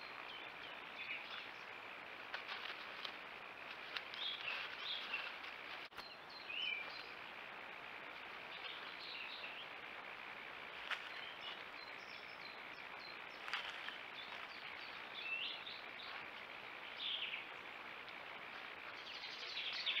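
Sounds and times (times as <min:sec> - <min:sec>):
birds chirping: 0:00.0 - 0:20.0
microphone hiss: 0:00.0 - 0:20.0.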